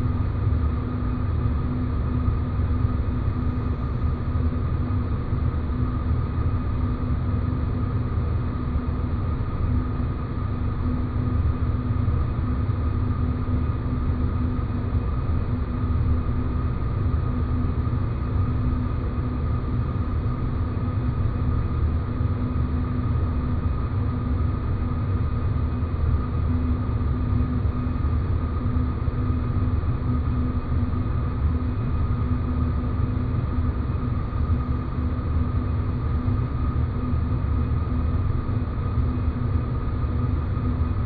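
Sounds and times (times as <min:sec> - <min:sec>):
constant two-pitch hum: 0:00.0 - 0:41.0.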